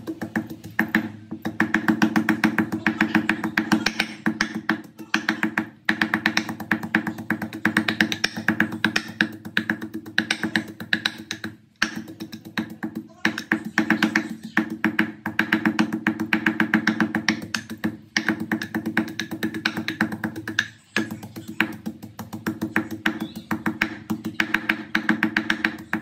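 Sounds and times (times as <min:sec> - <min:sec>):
wooden pestle pounding in mortar: 0:00.0 - 0:26.0.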